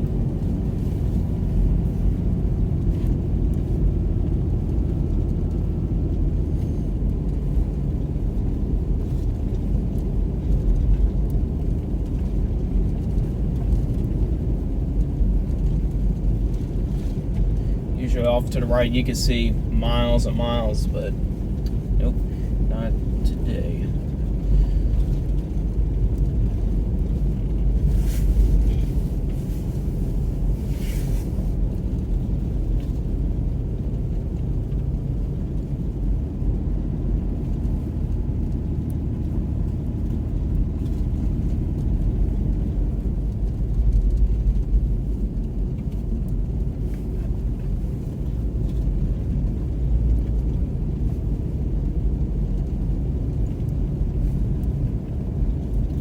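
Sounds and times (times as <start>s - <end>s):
car driving on snow: 0.0s - 56.0s.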